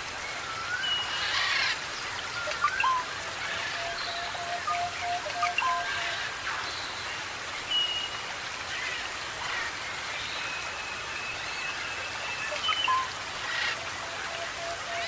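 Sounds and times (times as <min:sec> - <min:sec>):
continuous background hiss: 0:00.0 - 0:15.0.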